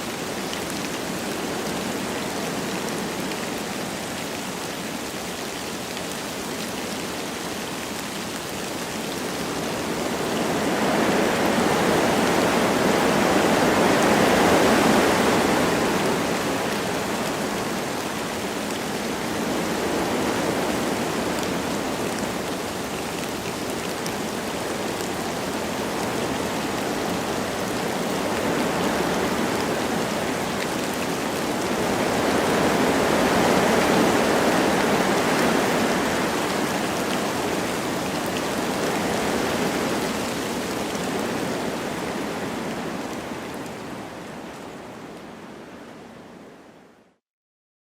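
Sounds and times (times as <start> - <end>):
light rain: 0.0 - 47.2
wind blowing through trees: 0.0 - 47.2.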